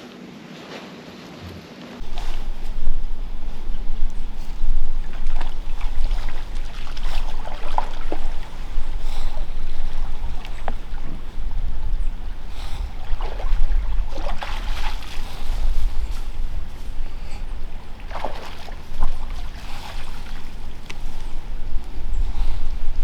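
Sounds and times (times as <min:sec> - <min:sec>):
water splashing in creek: 0:02.0 - 0:23.0
wind rumble on microphone: 0:02.0 - 0:23.0.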